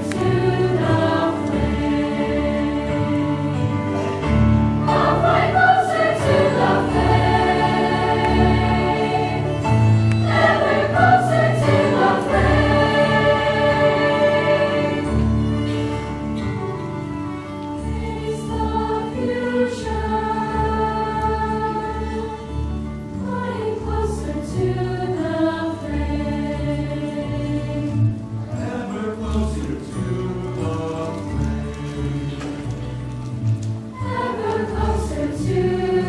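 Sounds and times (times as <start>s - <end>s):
choir singing: 0.0s - 16.2s, 17.8s - 33.1s, 33.9s - 36.0s.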